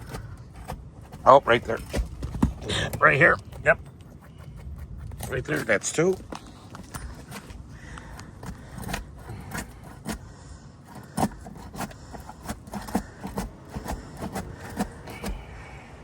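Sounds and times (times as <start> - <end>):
roof shingle being pried loose: 0.0 - 15.5
shingle cracking: 0.0 - 15.5.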